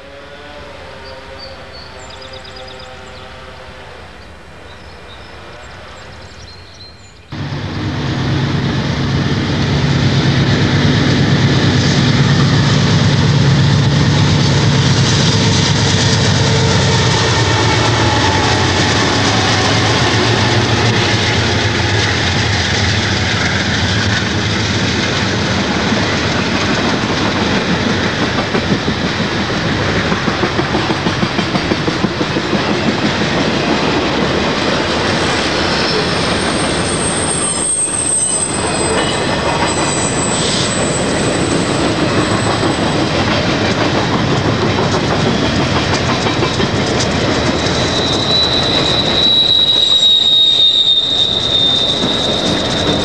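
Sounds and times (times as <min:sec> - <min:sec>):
diesel locomotive engine drone: 0:00.0 - 0:53.0
train wheels clickety-clack: 0:07.8 - 0:53.0.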